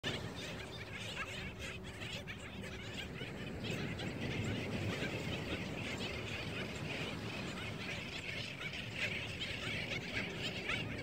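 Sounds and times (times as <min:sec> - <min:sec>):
seabird colony calling: 0:00.0 - 0:11.0.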